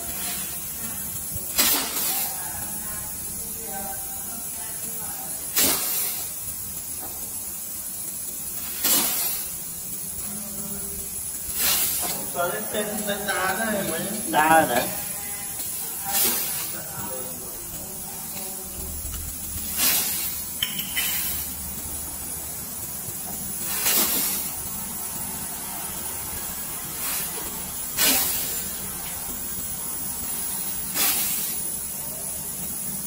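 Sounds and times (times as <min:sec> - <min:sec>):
gas hissing bursts: 0:00.0 - 0:33.0.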